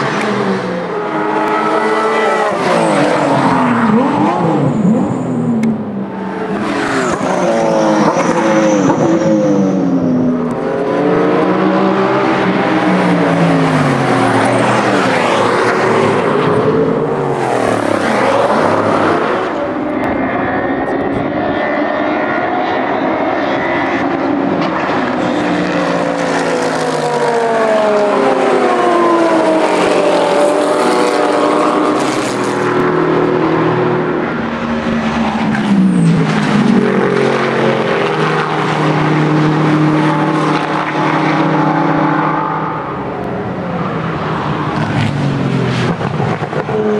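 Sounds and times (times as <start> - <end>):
racing car engines revving: 0.0 - 46.9.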